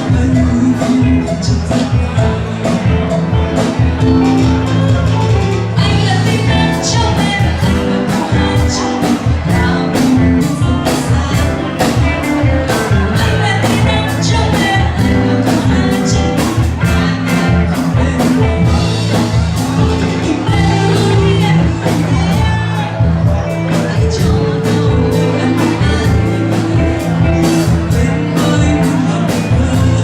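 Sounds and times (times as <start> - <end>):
band playing a song: 0.0 - 30.0
person singing: 0.0 - 30.0
steady drum beat: 0.0 - 30.0.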